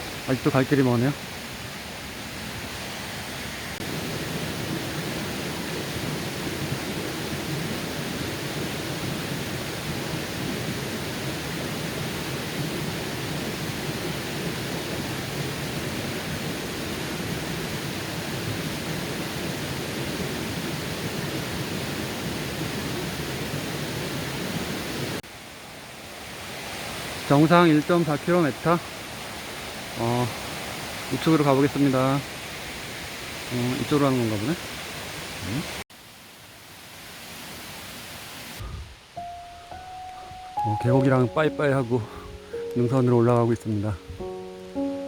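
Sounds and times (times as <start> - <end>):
stream rushing: 0.0 - 45.0.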